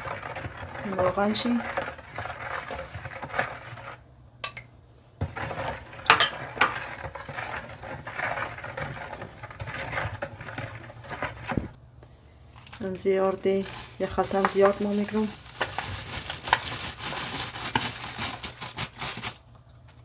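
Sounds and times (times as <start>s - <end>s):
spoon stirring in plastic bowl: 0.0s - 11.8s, 12.6s - 18.0s.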